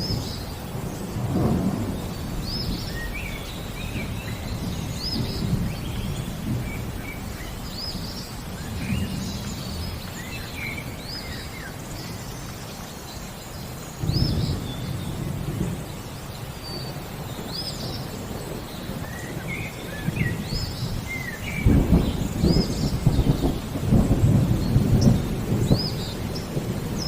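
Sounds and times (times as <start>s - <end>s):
distant thunder: 0.0s - 12.2s, 14.0s - 27.0s
birds chirping: 0.0s - 27.0s
rain: 0.0s - 27.0s.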